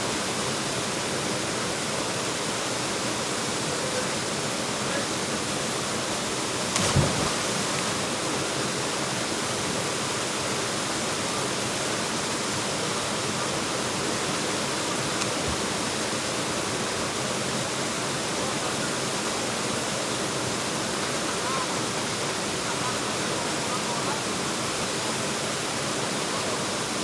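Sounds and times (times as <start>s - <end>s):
river water rushing into pool: 0.0s - 27.0s.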